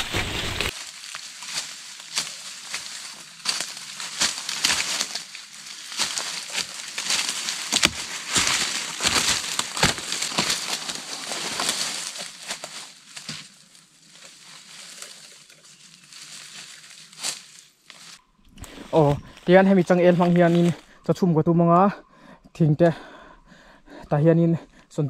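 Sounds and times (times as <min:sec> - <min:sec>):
log dragged through brush: 0:00.0 - 0:21.0
footsteps crunching through dry leaves: 0:00.0 - 0:21.1
twigs crackling and snapping: 0:00.0 - 0:21.1.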